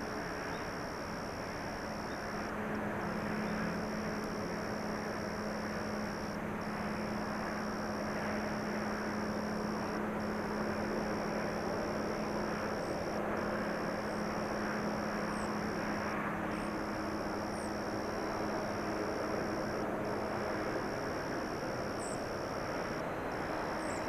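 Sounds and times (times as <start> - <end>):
distant diesel locomotive drone: 0.0 - 24.0.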